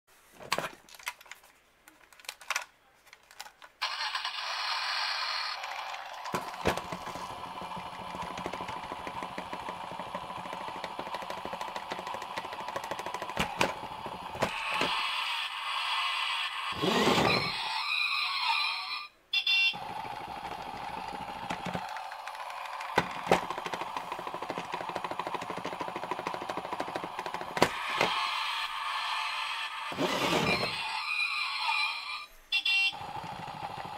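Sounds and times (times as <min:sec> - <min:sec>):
toy motor and wheels rumbling: 0:03.8 - 0:18.9, 0:19.8 - 0:32.2, 0:32.9 - 0:33.9
toy electronic sound effects: 0:03.8 - 0:33.9.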